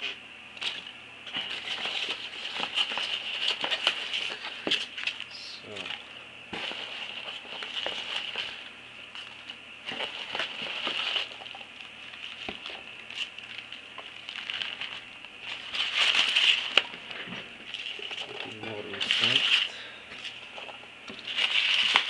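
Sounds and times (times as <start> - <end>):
packaging rustling and crinkling: 0.6 - 22.0.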